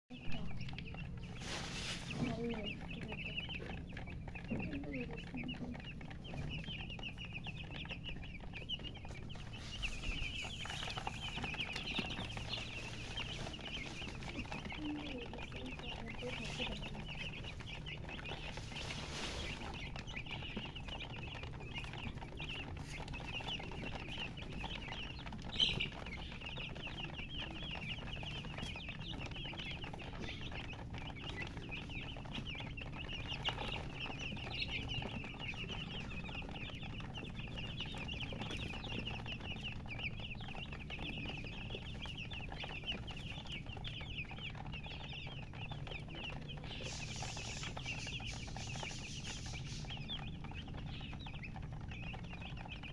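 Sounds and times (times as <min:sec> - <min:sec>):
baby chicks peeping: 0:00.1 - 0:52.9.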